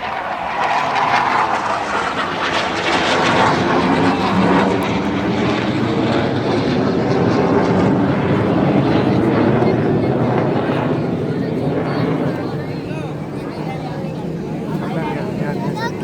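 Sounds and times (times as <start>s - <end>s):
airplane engines droning: 0.0s - 16.0s.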